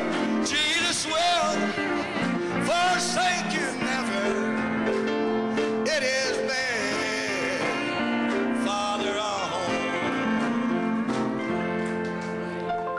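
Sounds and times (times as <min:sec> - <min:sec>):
man singing gospel: 0:00.0 - 0:12.3
piano accompaniment: 0:00.0 - 0:12.9.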